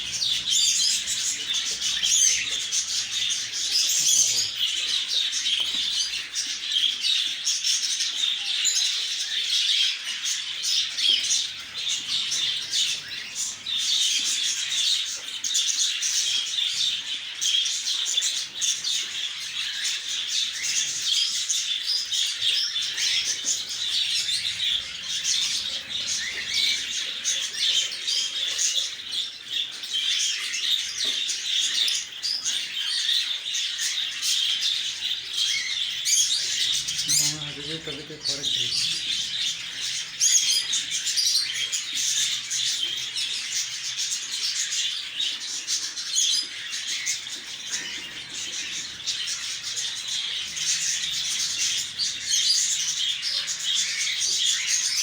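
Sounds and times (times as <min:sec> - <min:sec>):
lovebirds chirping: 0:00.0 - 0:55.0.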